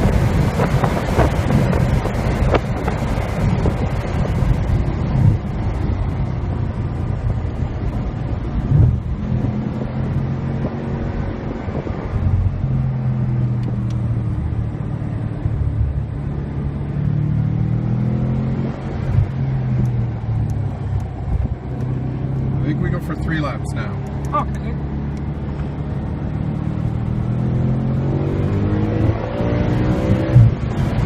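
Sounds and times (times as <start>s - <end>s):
car engine: 0.0s - 31.0s
road noise: 0.0s - 31.0s.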